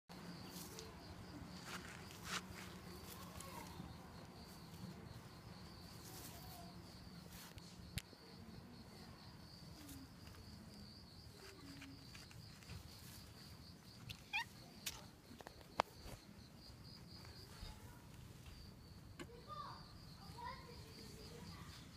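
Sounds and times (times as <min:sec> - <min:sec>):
high insect trill: 0:00.1 - 0:21.9.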